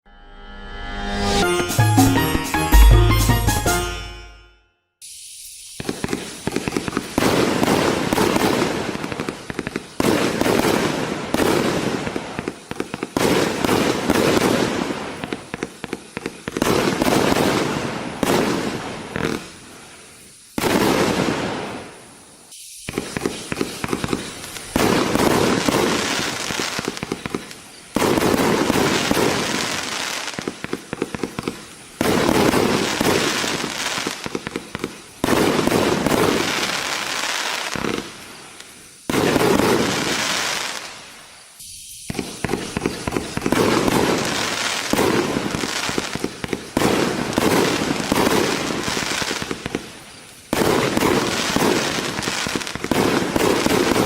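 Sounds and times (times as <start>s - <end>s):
firework crackling bursts: 5.0s - 54.0s.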